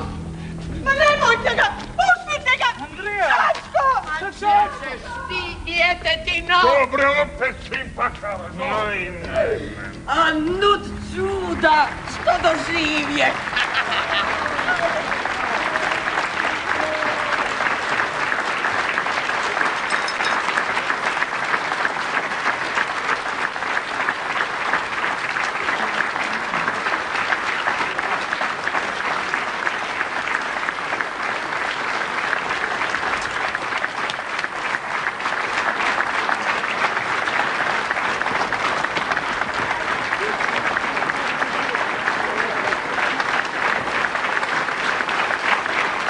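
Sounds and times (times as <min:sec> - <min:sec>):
audience applauding: 0:00.0 - 0:46.0.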